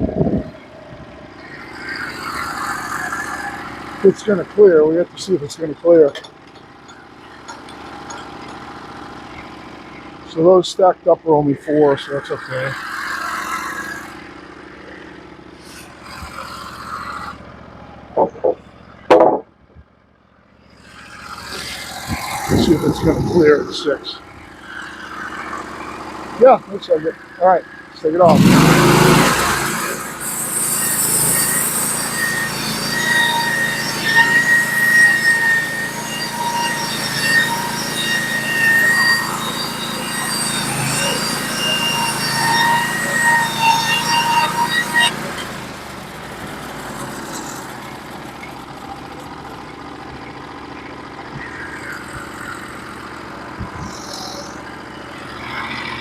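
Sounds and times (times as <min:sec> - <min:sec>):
saw blade squealing whine: 0:00.0 - 0:56.0
sawmill engine idling: 0:00.0 - 0:56.0.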